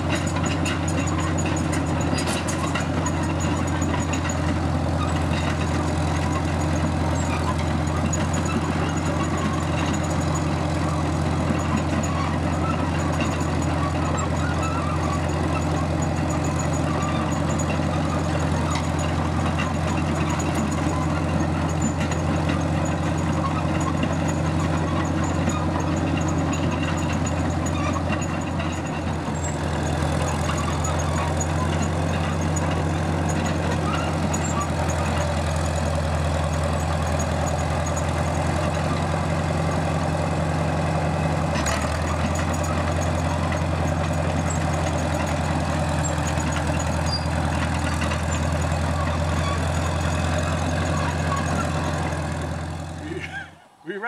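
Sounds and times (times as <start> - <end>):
crawler tractor engine running: 0.0 - 54.0.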